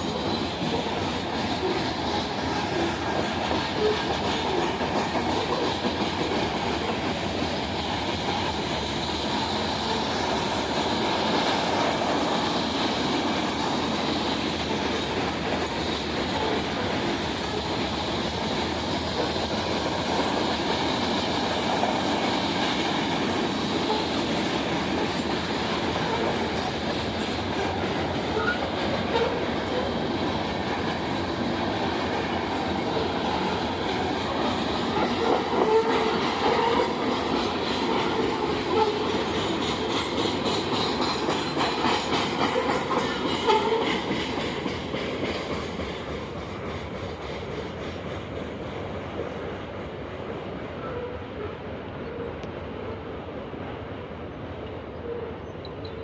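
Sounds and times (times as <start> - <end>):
train wheels clattering: 0.0 - 51.1.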